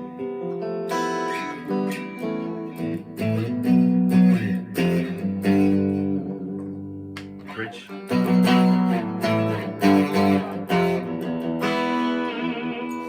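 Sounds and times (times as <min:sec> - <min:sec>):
clean electric guitar with reverb: 0:00.0 - 0:13.0.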